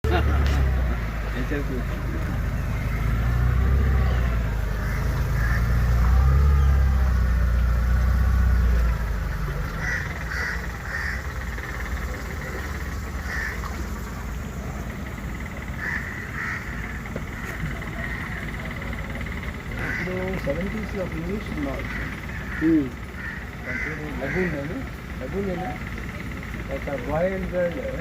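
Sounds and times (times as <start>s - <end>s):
boat motor rumbling: 0.0s - 28.0s
bird calls: 2.1s - 28.0s.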